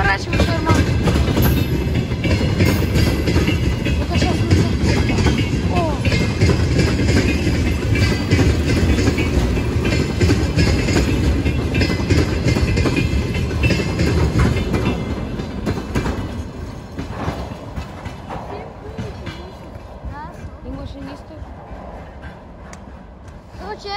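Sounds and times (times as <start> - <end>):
train low rumble: 0.0 - 23.9
train wheels clattering: 0.0 - 23.9.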